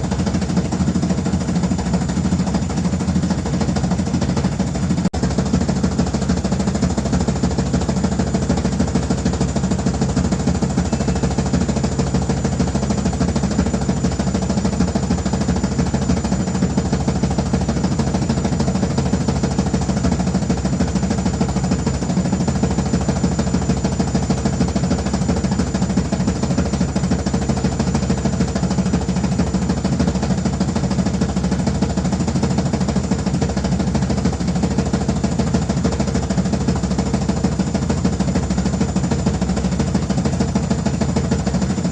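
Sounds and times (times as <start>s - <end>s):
washing machine running: 0.0s - 41.9s.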